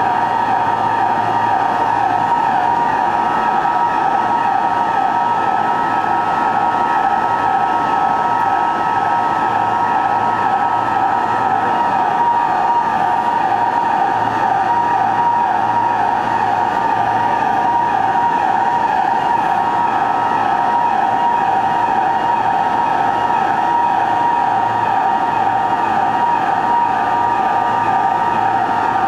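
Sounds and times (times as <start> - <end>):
emergency alarm buzzer: 0.0 - 29.0.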